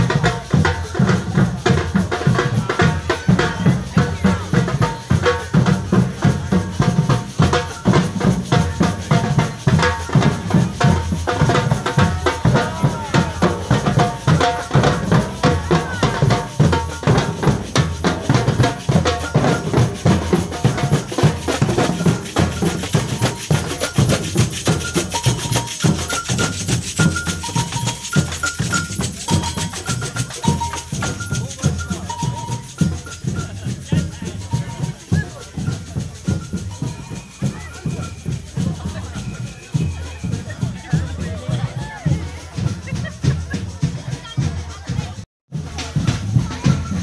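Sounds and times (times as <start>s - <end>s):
rapid dense drumming: 0.0s - 47.0s
shaken rattles: 4.6s - 45.0s.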